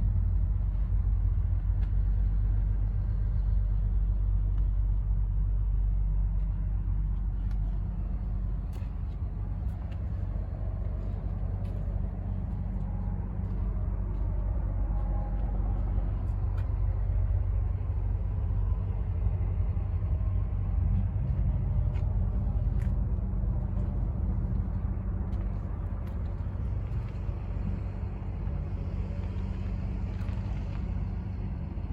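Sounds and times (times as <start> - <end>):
diesel truck engine idling: 0.0 - 31.9.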